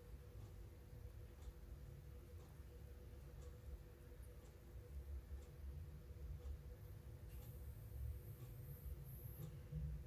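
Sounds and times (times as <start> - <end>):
faint steady hum: 0.0 - 10.0
faint ticking: 0.0 - 10.0.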